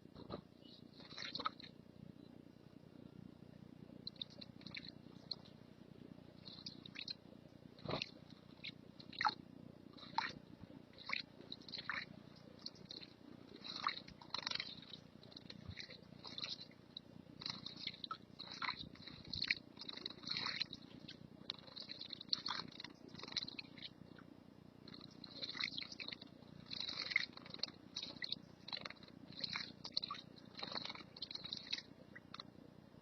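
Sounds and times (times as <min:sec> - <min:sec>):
low background rumble: 0:00.0 - 0:33.0
songbird chirping: 0:00.0 - 0:33.0.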